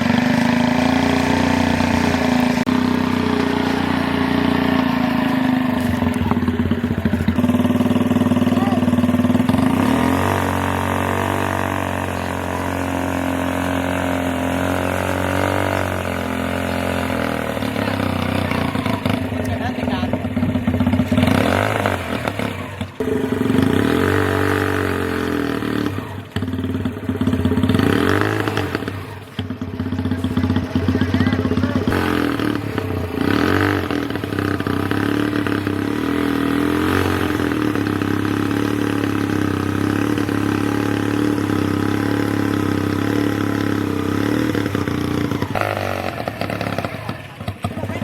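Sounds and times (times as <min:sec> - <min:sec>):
tractor diesel engine revving: 0:00.0 - 0:48.0.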